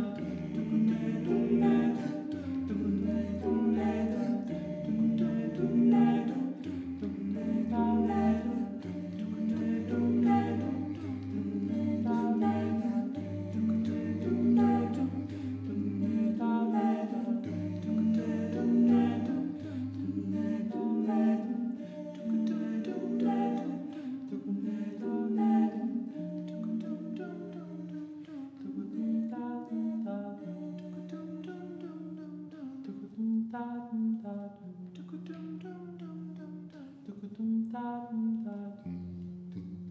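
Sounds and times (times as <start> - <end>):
a cappella vocal phrases: 0.0 - 39.9.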